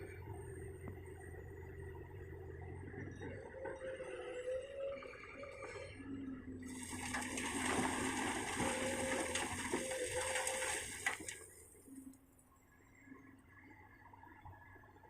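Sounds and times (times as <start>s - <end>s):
excavator engine and hydraulics whining: 0.0s - 15.0s.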